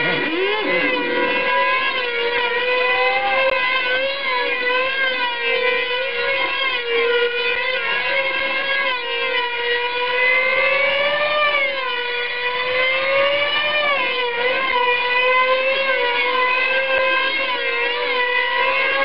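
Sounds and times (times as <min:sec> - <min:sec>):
model aircraft engines whining: 0:00.0 - 0:19.0.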